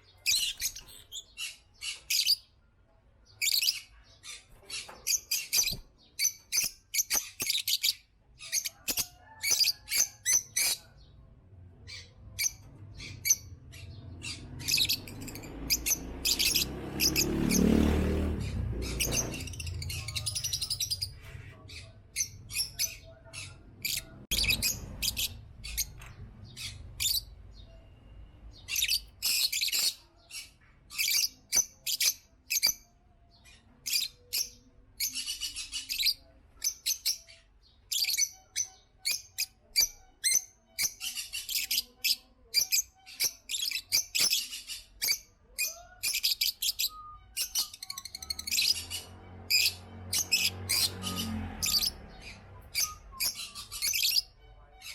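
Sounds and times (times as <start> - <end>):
lovebirds chirping: 0.0 - 54.9.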